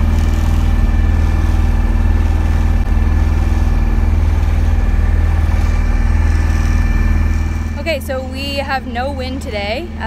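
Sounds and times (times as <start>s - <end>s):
boat motor droning: 0.0s - 10.0s.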